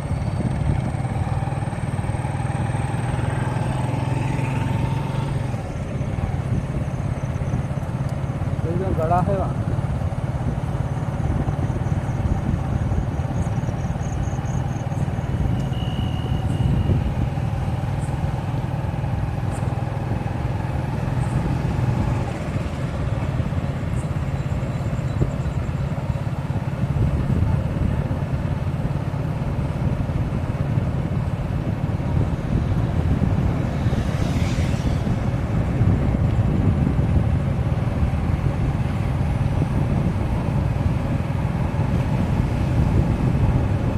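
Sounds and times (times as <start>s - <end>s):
motorcycle running: 0.0s - 43.9s
road and wind noise: 0.0s - 43.9s.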